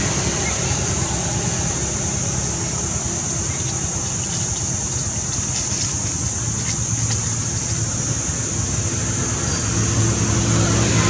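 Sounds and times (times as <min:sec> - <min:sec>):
constant high hiss: 0:00.0 - 0:11.0.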